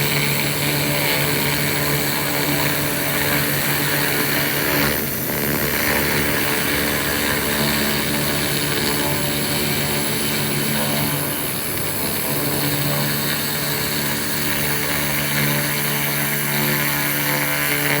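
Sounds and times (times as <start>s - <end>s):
laser cleaning machine humming: 0.0s - 18.0s.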